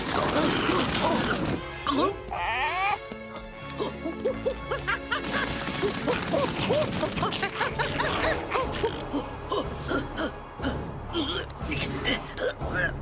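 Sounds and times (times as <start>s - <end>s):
cartoon background music: 0.0s - 13.0s.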